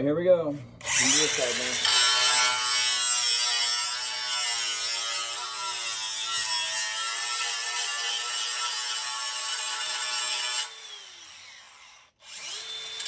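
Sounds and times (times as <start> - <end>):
angle grinder grinding steel: 0.6 - 13.0.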